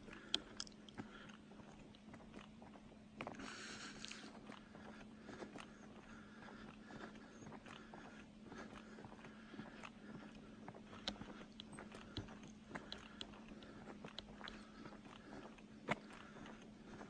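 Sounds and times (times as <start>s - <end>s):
faint steady hum: 0.0s - 17.0s
footsteps on paved road: 0.0s - 17.0s.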